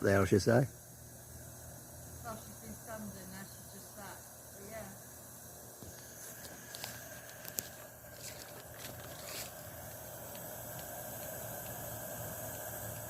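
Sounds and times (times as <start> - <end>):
running water hiss: 0.0 - 13.0.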